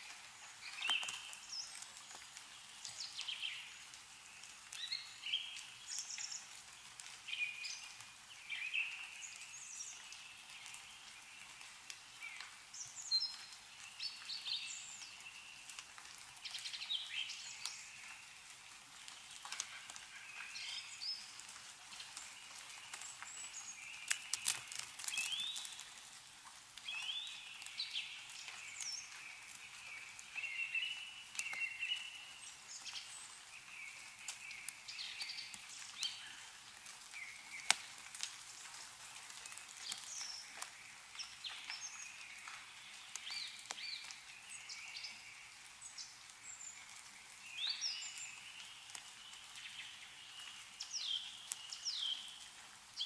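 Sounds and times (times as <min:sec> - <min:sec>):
songbirds chirping: 0:00.0 - 0:53.0
water dripping from trees: 0:00.0 - 0:53.0.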